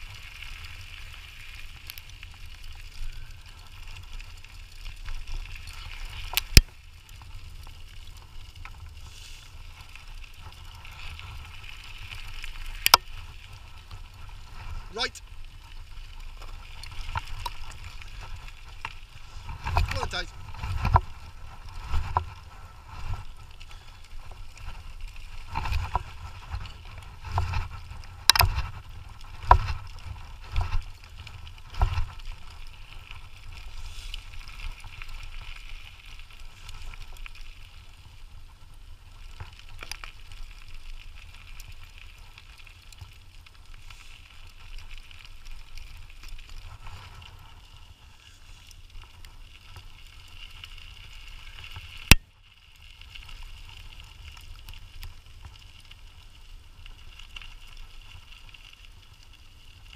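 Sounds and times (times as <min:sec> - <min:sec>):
scooter tyres rumbling on trail: 0:00.0 - 0:59.9.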